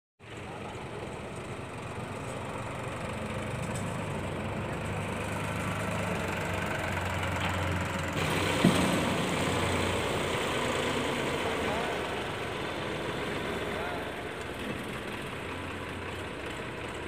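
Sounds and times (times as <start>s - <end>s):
tractor diesel engine running: 0.2s - 17.0s.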